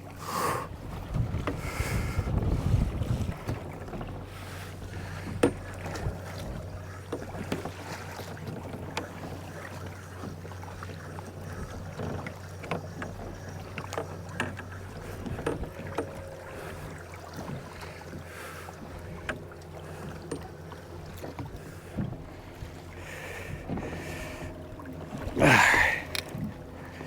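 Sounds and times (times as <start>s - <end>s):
boat knocks and ticks: 0.0s - 27.0s
water lapping against hull: 0.0s - 27.0s.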